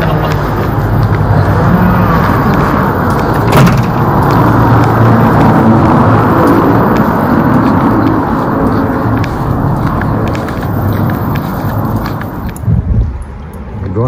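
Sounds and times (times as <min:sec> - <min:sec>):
low rumble of car traffic: 0:00.0 - 0:14.0.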